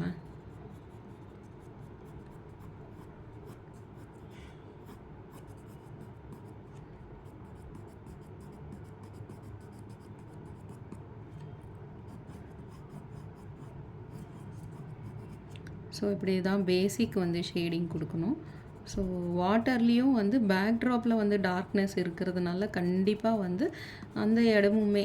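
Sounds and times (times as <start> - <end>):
pencil scratching on paper: 0.2 - 11.1, 12.0 - 15.5, 17.9 - 25.0.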